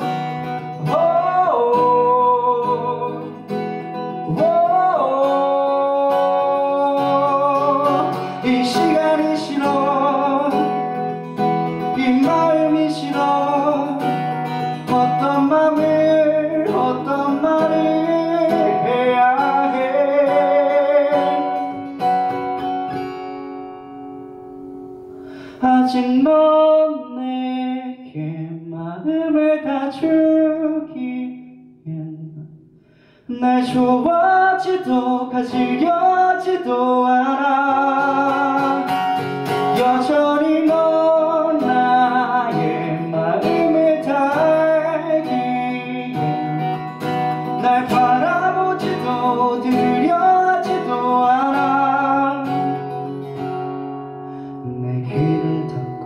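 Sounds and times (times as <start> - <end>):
man singing: 0.0 - 22.2, 25.5 - 32.6, 33.2 - 53.5, 54.5 - 56.0
acoustic guitar strumming: 0.0 - 56.0.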